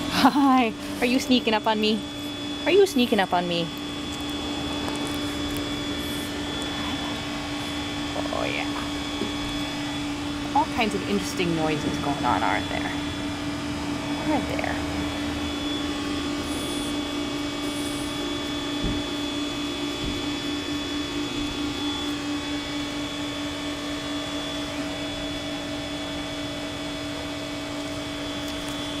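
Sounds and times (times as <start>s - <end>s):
machine drone with low hum: 0.0s - 29.0s.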